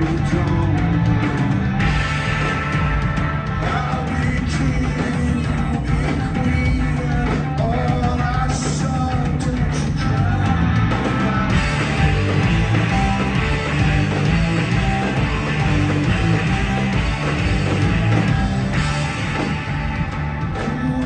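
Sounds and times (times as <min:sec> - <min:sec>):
bass guitar: 0:00.0 - 0:21.0
drums: 0:00.0 - 0:21.0
electric guitars: 0:00.0 - 0:21.0.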